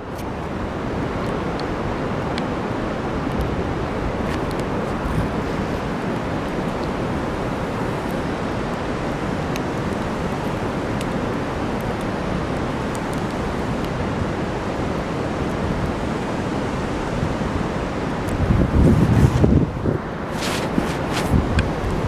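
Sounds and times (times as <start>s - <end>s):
rain: 0.0s - 22.0s
river rushing in flood: 0.0s - 22.0s.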